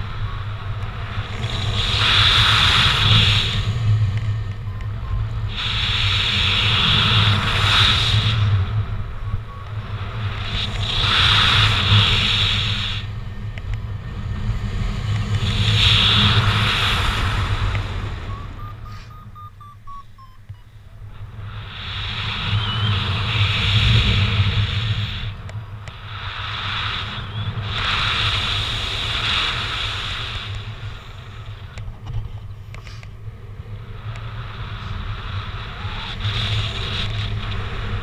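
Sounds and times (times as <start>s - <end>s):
wind rushing over microphone: 0.0s - 20.0s, 21.2s - 38.0s
steady low rumble: 0.0s - 38.0s.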